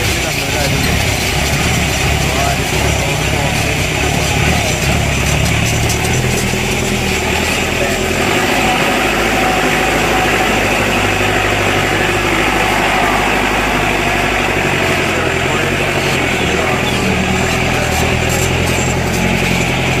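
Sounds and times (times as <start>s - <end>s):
constant rushing noise: 0.0s - 20.0s
jeep engine running: 0.0s - 20.0s.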